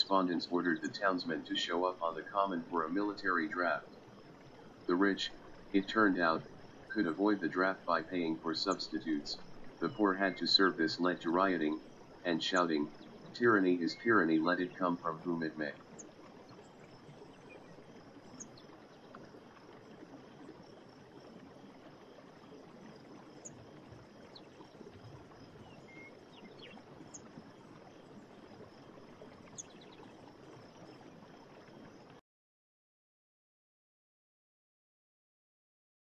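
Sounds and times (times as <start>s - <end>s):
water washing: 0.0s - 31.8s.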